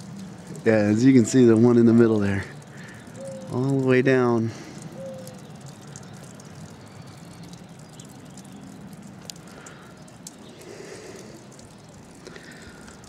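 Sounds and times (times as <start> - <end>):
meltwater dripping: 0.0 - 13.0.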